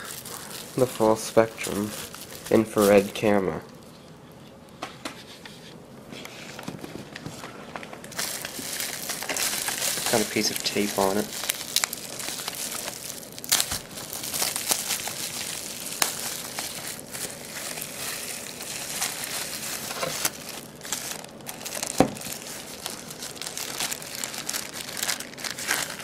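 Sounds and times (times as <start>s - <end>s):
plastic bag crinkling: 0.0s - 3.9s, 6.5s - 26.0s.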